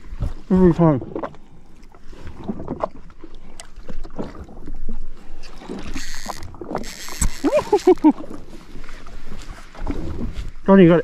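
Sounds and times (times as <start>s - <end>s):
water slapping against hull: 0.0s - 11.0s.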